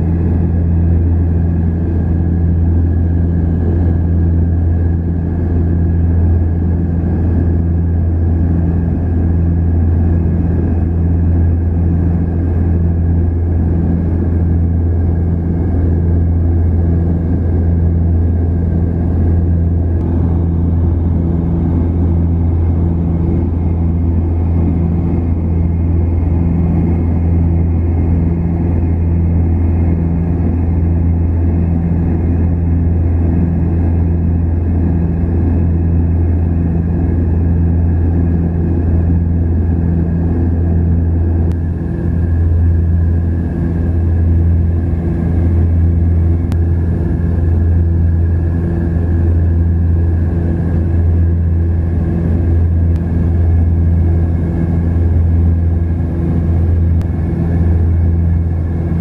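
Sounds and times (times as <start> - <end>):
turboprop engine cabin drone: 0.0 - 59.0.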